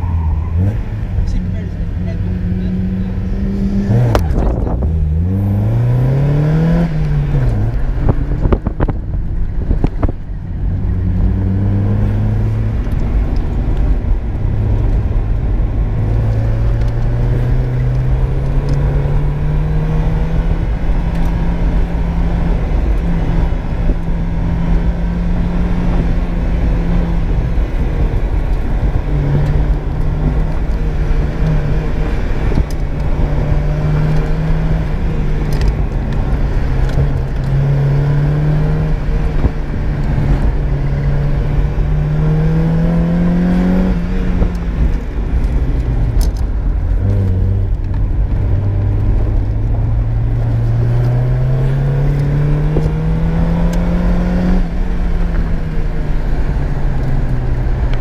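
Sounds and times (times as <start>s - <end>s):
car engine revving hard: 0.0s - 8.8s, 10.8s - 45.5s, 47.0s - 56.8s.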